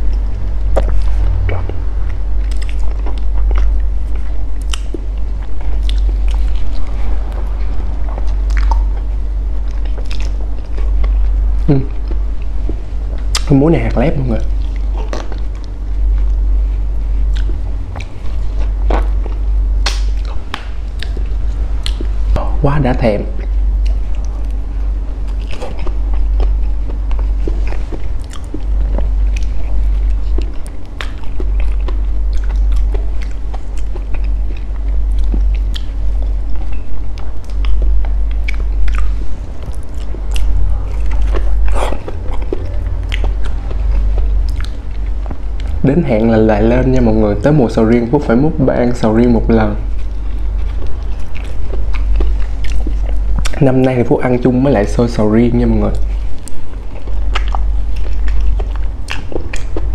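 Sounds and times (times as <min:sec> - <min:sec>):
wet chewing smacks and clicks: 0:00.0 - 0:22.2, 0:23.3 - 0:49.3, 0:49.9 - 0:54.9, 0:55.9 - 0:59.9
steady low hum: 0:00.0 - 0:59.9.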